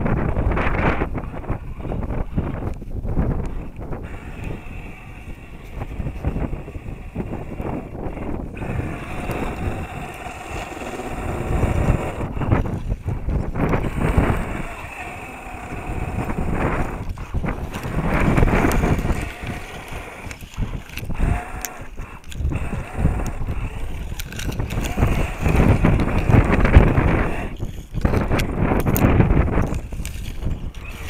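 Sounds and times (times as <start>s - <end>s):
wind buffeting microphone: 0.0s - 31.0s
toy truck electric motor whirring: 3.8s - 31.0s.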